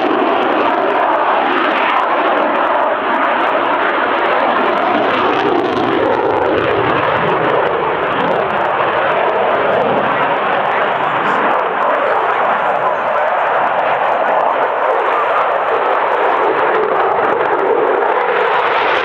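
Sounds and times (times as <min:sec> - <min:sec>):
fighter jet flying overhead: 0:00.0 - 0:19.0.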